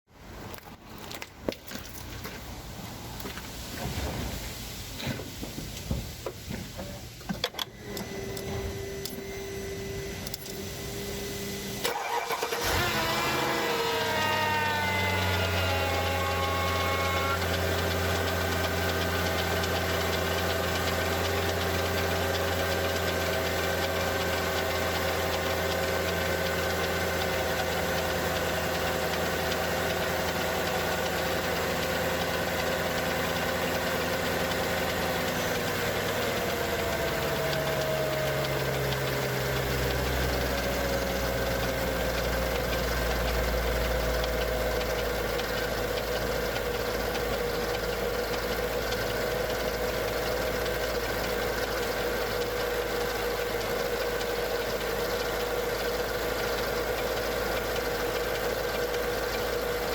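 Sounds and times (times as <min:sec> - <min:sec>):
car engine starting and idling: 0:00.2 - 0:59.9
engine ticking: 0:11.9 - 0:59.9.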